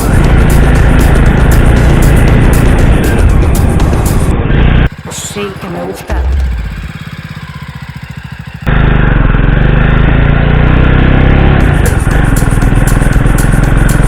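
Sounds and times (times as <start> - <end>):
motorcycle engine pulsing: 0.0 - 14.0.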